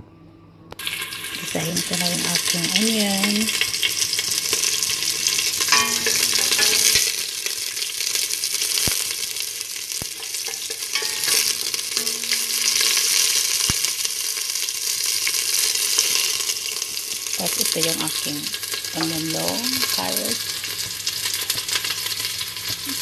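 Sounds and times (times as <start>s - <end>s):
garlic and onion sizzling: 0.8s - 23.0s.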